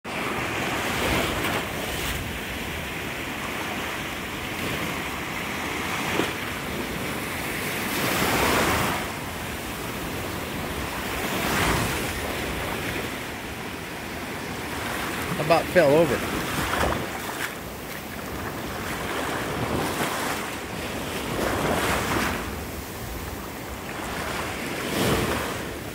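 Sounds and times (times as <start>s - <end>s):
waves breaking on beach: 0.1s - 25.9s.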